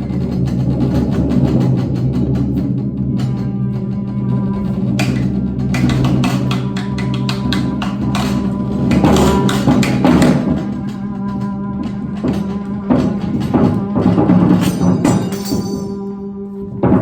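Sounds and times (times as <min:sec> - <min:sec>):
percussion strikes and rattles: 0:00.0 - 0:17.0.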